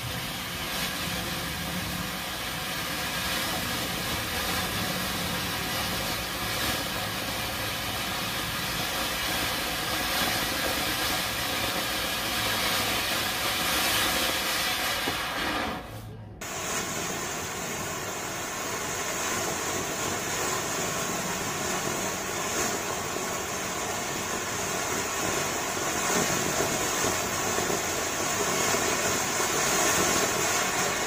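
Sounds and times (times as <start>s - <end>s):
firework fountain hissing: 0.0s - 31.0s.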